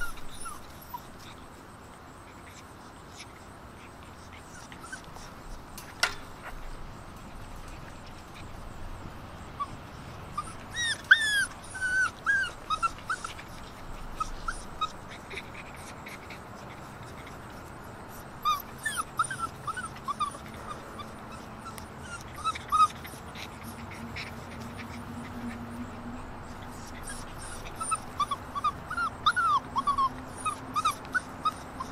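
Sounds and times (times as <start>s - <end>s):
puppies whimpering and yipping: 0.0s - 1.6s, 2.2s - 31.9s.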